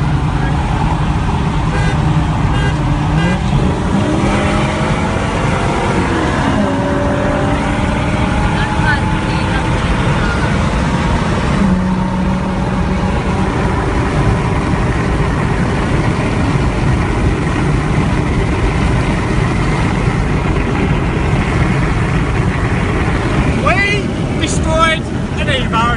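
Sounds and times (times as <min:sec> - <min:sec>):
car engine drone: 0:00.0 - 0:25.9
road noise: 0:00.0 - 0:25.9.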